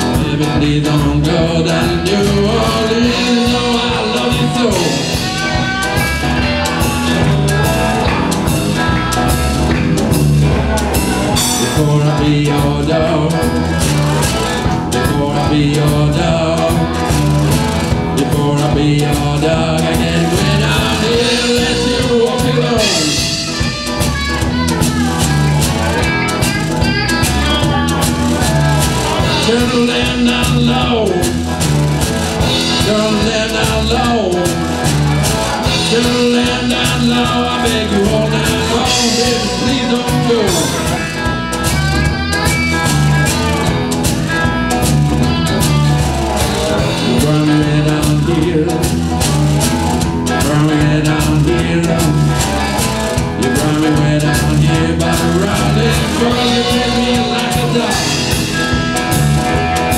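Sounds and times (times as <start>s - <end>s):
amplified slide guitar: 0.0s - 59.9s
blues band playing: 0.0s - 59.9s
drum kit steady beat: 0.0s - 59.9s.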